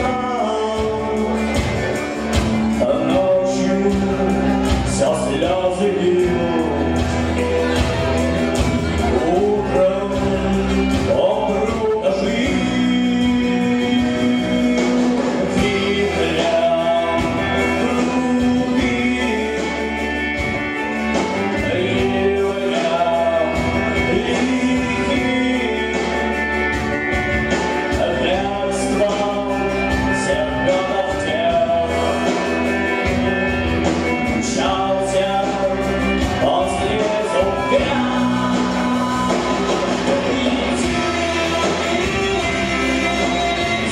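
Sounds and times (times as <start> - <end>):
band playing: 0.0 - 43.9
man singing: 0.0 - 43.9.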